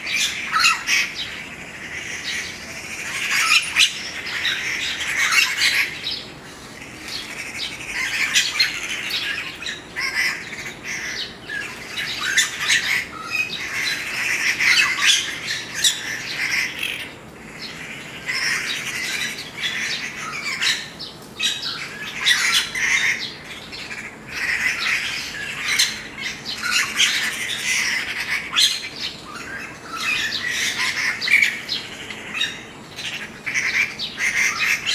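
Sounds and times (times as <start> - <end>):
birds squawking and chirping: 0.0 - 34.9.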